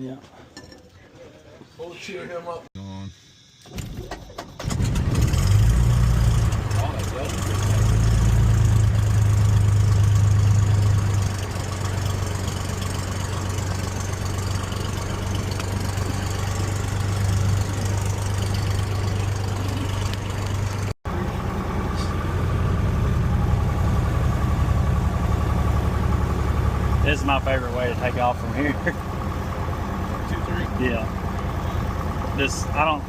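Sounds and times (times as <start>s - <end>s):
piston aircraft engine humming: 3.2s - 33.0s.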